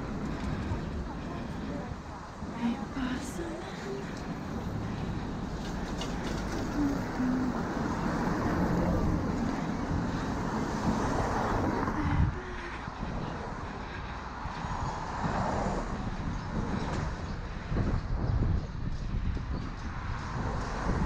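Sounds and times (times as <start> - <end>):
passing vehicles rushing: 0.0 - 21.0.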